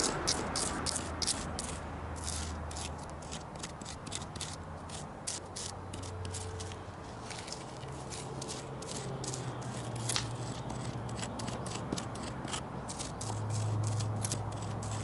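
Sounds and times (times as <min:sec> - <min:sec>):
hand tool scraping charred wood: 0:00.0 - 0:15.0.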